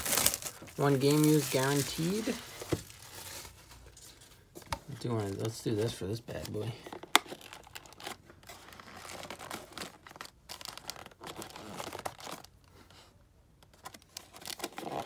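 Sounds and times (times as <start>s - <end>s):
hands crinkling card box: 0.0s - 12.6s.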